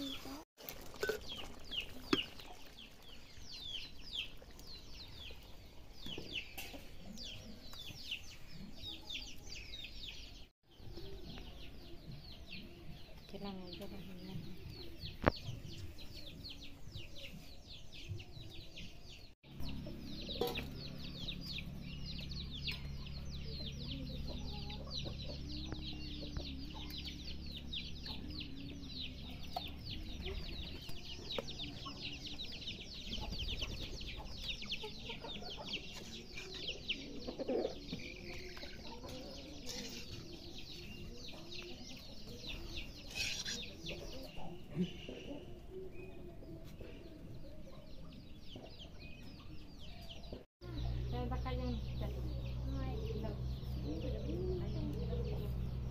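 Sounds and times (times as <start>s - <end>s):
small birds chirping: 0.0s - 55.9s
chickens clucking: 10.8s - 55.9s.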